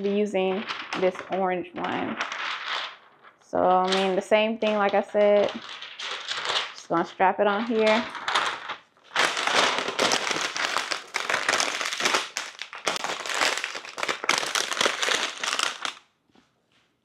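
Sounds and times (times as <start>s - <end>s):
plastic sheet crinkling: 0.0s - 16.1s.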